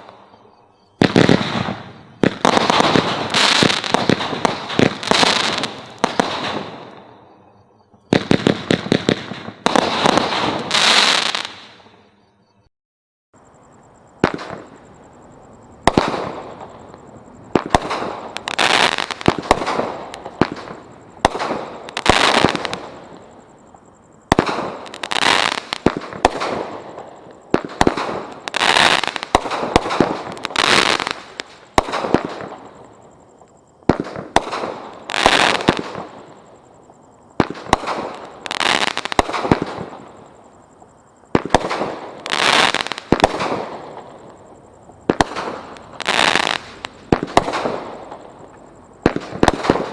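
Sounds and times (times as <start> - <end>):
fireworks bangs with crackling: 1.0 - 7.2, 8.0 - 12.0, 14.2 - 14.9, 15.8 - 36.7, 37.3 - 49.9.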